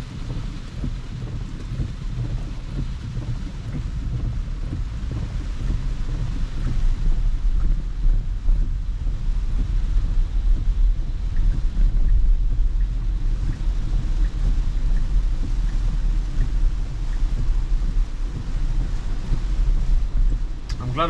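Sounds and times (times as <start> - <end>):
rain on car: 0.0 - 21.0.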